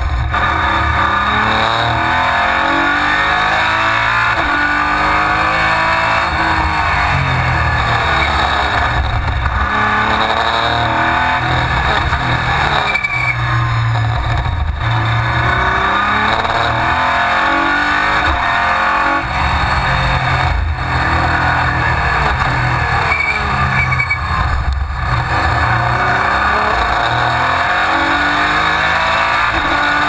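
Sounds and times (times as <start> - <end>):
race car engine accelerating: 0.0 - 30.0
wind and road noise: 0.0 - 30.0.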